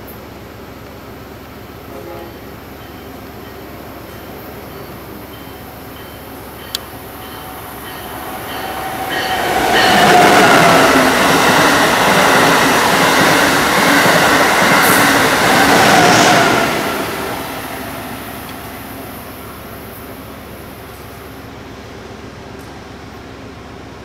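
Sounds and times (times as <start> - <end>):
high-speed train passing: 0.3 - 24.0.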